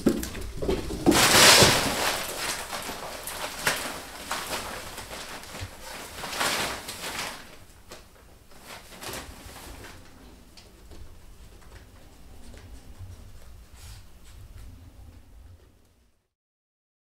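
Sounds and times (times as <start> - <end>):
fabric tunnel rustling: 0.0 - 15.5.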